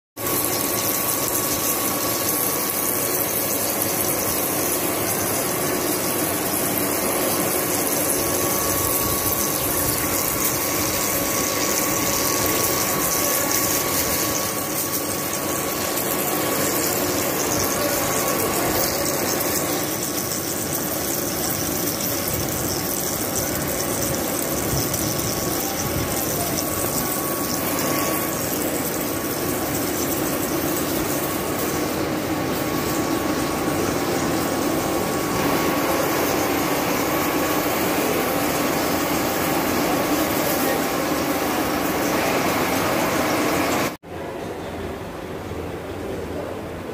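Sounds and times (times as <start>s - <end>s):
metal lathe cutting: 0.2s - 44.0s.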